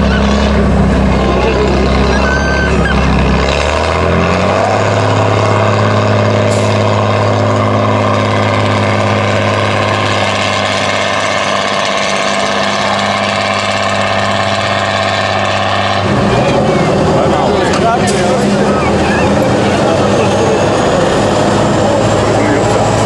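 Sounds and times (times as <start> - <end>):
truck diesel engine revving: 0.0 - 23.0.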